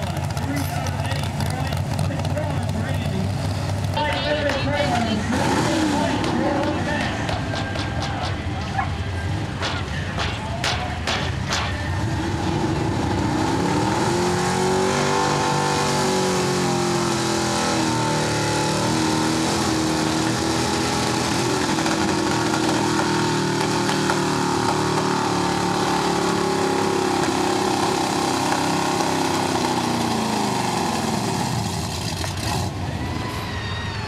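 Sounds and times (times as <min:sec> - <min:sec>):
truck engine at high revs: 0:00.0 - 0:33.3.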